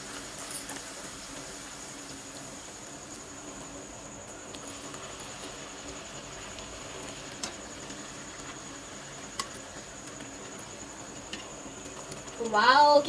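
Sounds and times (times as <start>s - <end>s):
oil sizzling and crackling: 0.0s - 13.0s.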